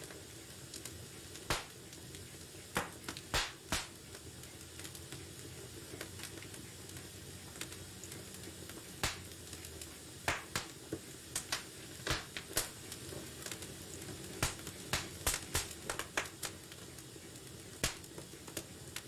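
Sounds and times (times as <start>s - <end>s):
fire crackling and popping: 0.0s - 19.0s
wood fire hissing: 0.0s - 19.0s.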